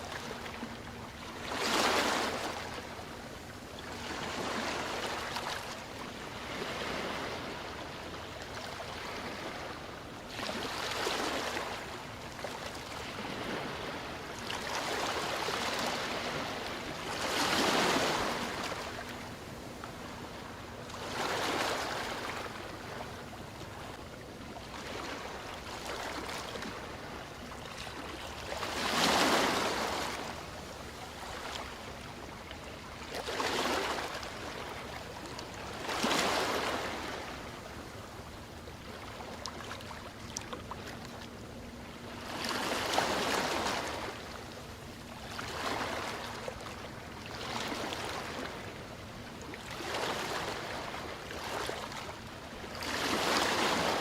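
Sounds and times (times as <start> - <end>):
ocean waves breaking: 0.0 - 24.0, 24.6 - 54.0.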